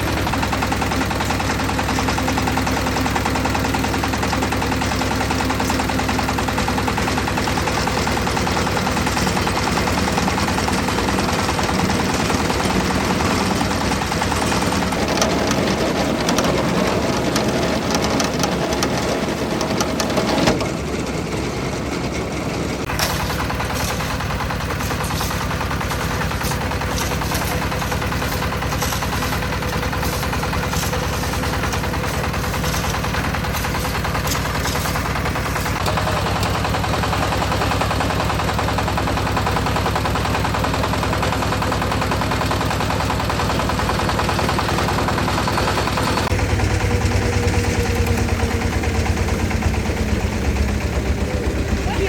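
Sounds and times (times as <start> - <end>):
concrete mixer droning: 0.0 - 52.0.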